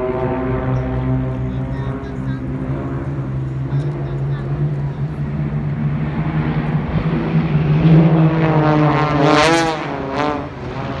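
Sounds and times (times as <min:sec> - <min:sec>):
small planes droning overhead: 0:00.0 - 0:11.0.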